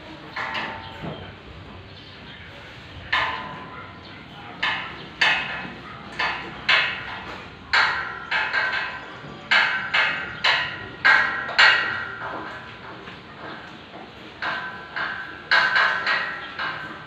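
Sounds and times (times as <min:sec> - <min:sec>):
metal grill knocks ringing: 0:03.0 - 0:17.0.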